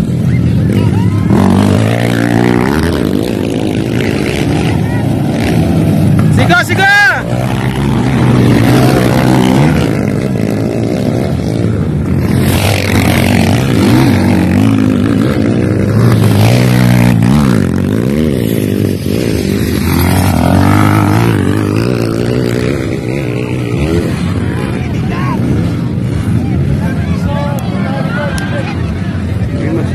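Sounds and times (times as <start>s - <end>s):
dirt bike engines revving: 0.0s - 29.9s.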